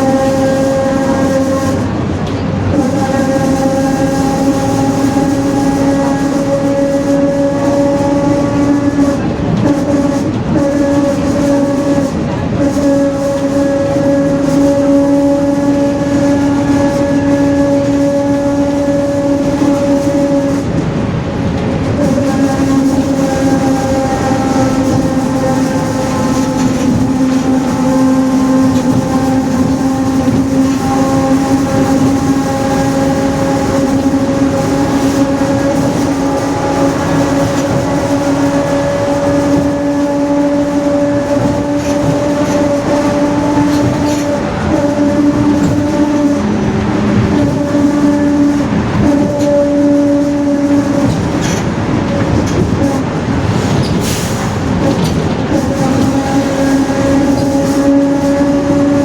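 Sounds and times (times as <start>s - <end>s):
bus differential whining: 0.0s - 59.0s.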